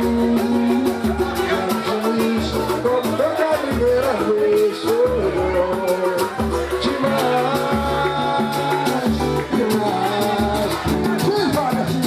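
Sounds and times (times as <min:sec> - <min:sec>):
live samba band playing: 0:00.0 - 0:12.0.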